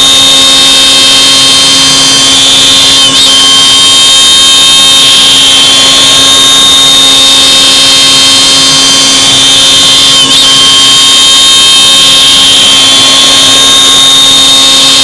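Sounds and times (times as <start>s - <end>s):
machining noise: 0.0s - 15.0s
router spindle high whine: 0.0s - 15.0s.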